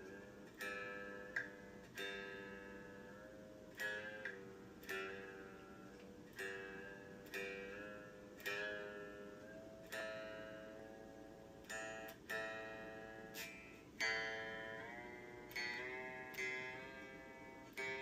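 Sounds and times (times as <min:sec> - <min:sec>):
electric guitar chords strummed: 0:00.0 - 0:18.0.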